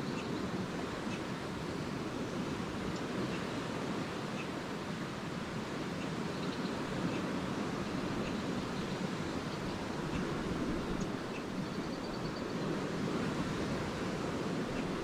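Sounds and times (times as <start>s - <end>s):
lake waves washing on beach: 0.0s - 15.0s.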